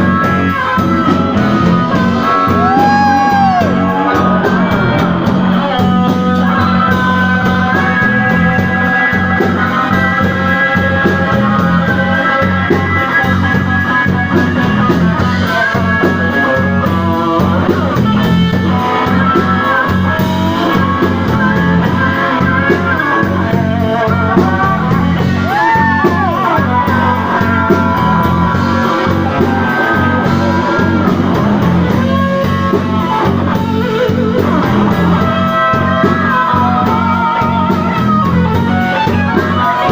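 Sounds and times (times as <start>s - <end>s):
bass line: 0.0s - 39.9s
blues-rock band playing live: 0.0s - 39.9s
electric guitar: 0.0s - 39.9s.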